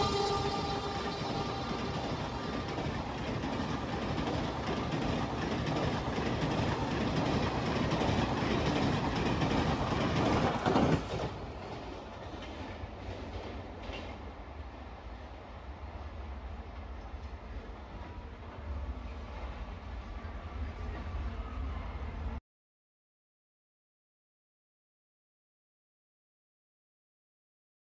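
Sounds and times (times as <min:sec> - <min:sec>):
train coaches passing at speed: 0:00.0 - 0:22.4.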